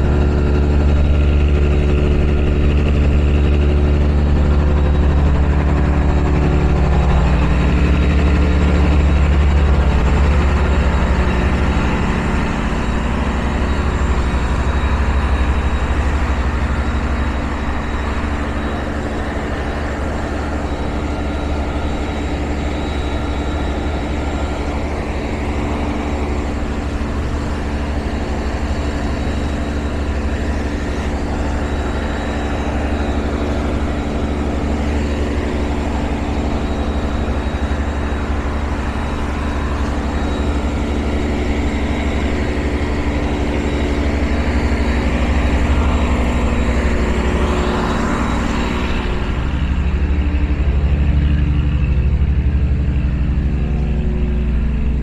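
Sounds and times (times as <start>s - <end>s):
boat diesel engine drone: 0.0s - 55.0s.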